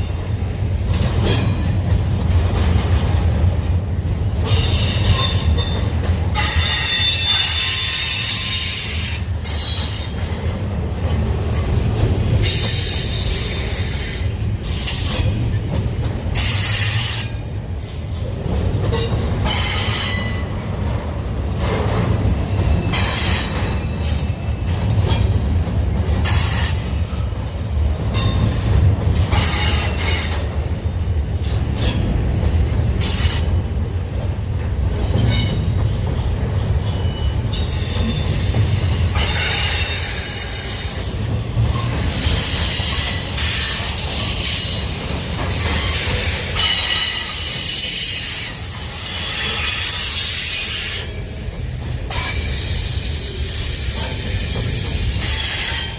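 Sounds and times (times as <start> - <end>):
freight train rumbling: 0.0 - 55.9.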